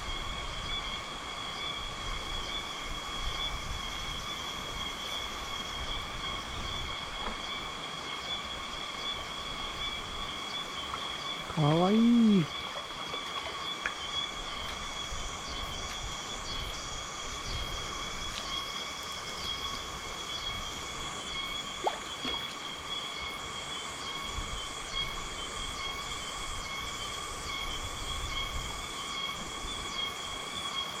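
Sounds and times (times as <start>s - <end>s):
insects calling: 0.0s - 31.0s.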